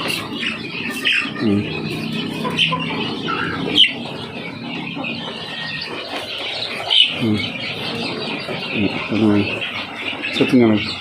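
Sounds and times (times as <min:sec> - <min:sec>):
chickens squawking in distress: 0:00.0 - 0:11.0.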